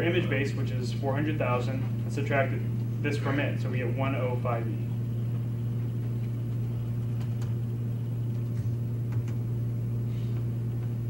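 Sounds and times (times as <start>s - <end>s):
low electrical fan hum: 0.0s - 11.0s.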